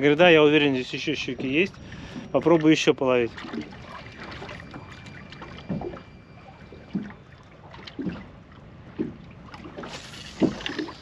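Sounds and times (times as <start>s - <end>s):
water lapping against boat: 0.0s - 11.0s.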